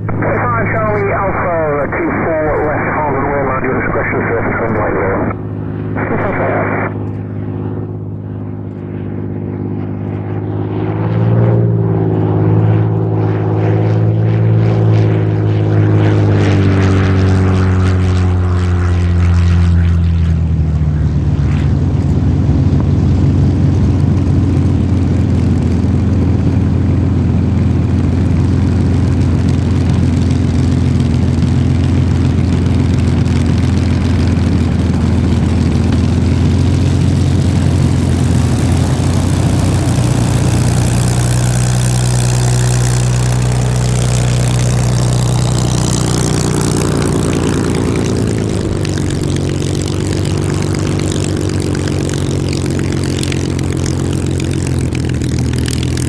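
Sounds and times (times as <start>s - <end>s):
aircraft engine running: 0.0s - 56.0s.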